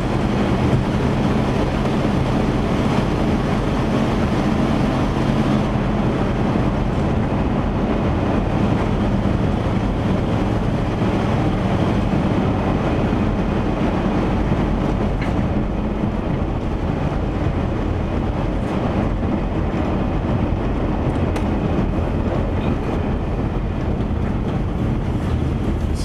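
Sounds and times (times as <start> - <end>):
van engine and road noise: 0.0 - 26.0.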